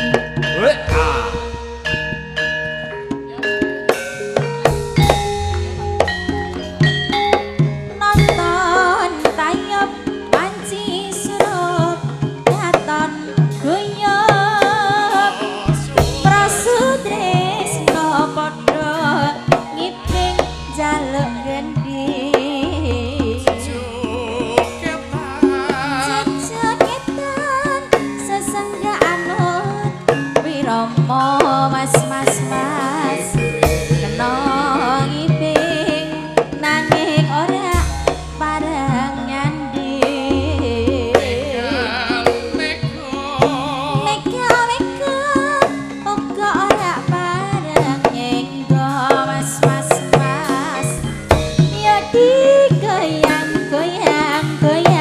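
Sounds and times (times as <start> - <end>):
person singing wavering melody: 0.0 - 3.8, 8.0 - 55.0
gamelan music: 0.0 - 55.0
hand drum strokes: 0.0 - 55.0.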